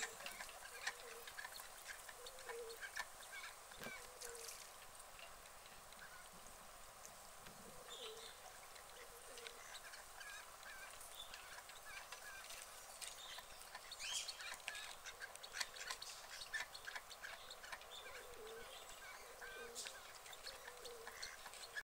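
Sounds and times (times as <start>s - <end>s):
ducks honking: 0.0s - 4.6s, 7.8s - 21.8s.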